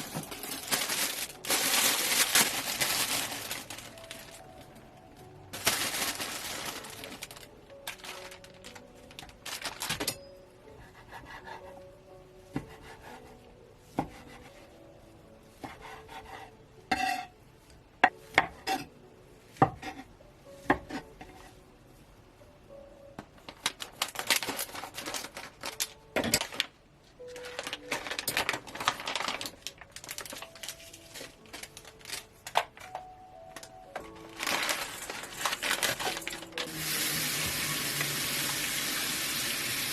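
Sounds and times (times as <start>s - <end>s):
soft background music: 0.0s - 39.9s.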